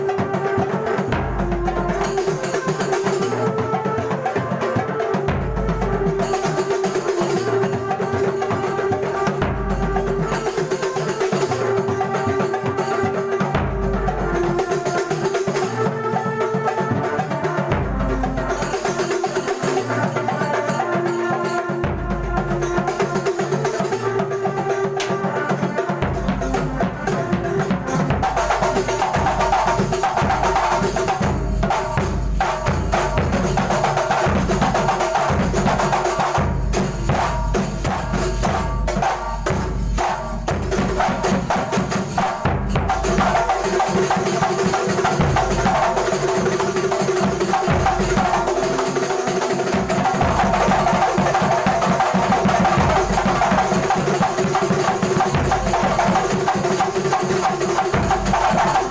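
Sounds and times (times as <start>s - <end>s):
ensemble drumming: 1.0s - 3.6s, 11.5s - 15.2s, 17.6s - 58.9s.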